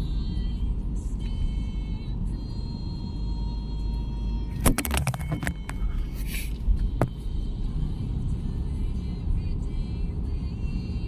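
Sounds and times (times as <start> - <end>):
car rumbling on the move: 0.0 - 11.0.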